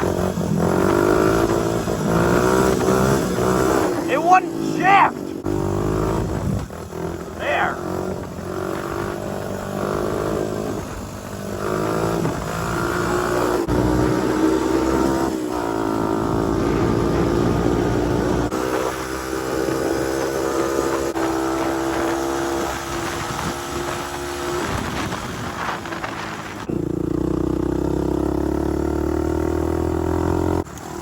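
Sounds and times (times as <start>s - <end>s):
quad bike engine revving: 0.0s - 31.0s.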